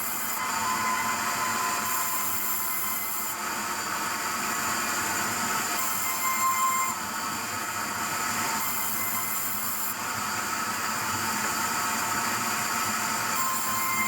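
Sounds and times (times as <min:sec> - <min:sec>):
saw blade cutting a log: 0:00.0 - 0:03.5, 0:05.2 - 0:10.6, 0:11.4 - 0:14.0.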